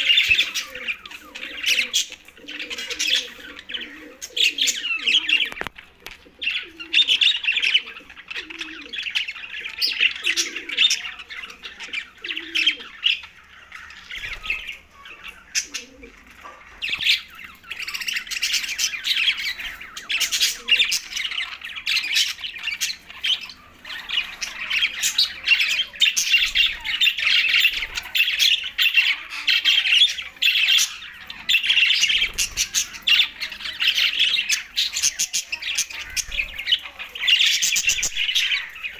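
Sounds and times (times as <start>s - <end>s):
budgerigars chattering and squawking: 0.0s - 38.9s
low repeated bird call: 0.0s - 38.9s.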